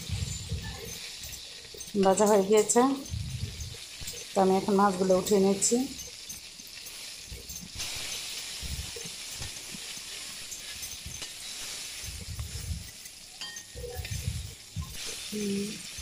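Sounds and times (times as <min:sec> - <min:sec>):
fish frying in oil: 0:00.0 - 0:16.0.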